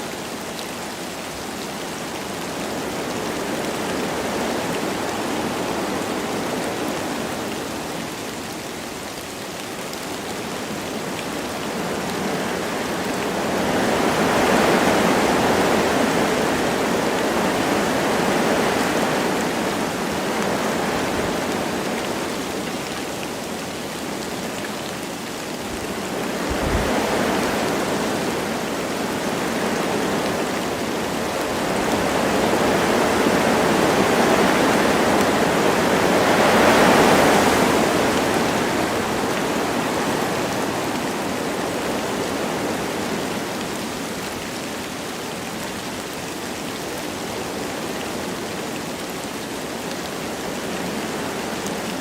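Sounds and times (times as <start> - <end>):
light rain falling: 0.0 - 52.0
wind through trees: 0.0 - 52.0.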